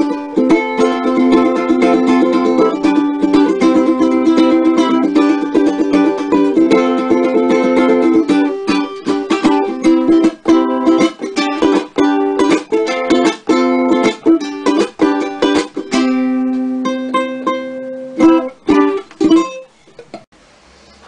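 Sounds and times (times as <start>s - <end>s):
ukulele strumming: 0.0s - 20.3s.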